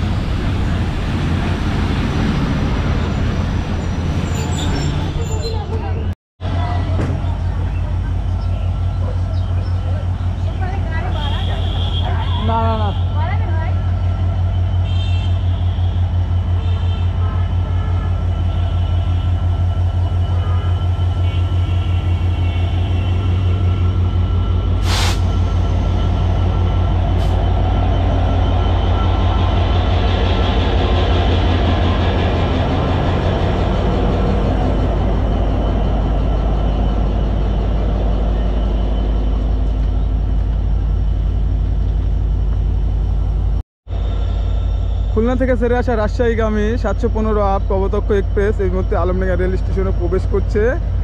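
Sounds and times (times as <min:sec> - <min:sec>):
diesel locomotive engine rumbling: 0:00.0 - 0:51.0.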